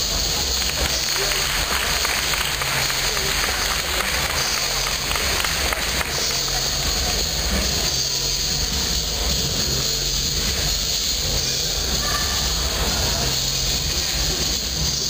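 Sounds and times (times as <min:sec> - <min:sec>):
hall ambience rumble and hiss: 0:00.0 - 0:15.0.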